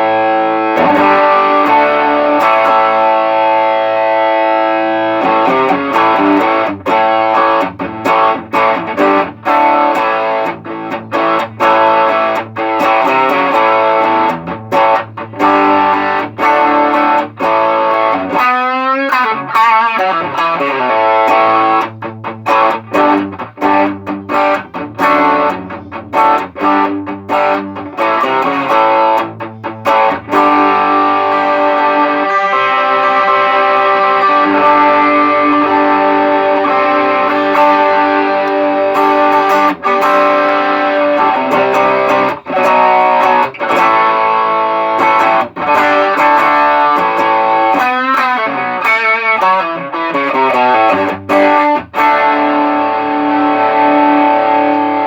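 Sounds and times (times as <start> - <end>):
overdriven electric guitar chords: 0.0 - 55.0.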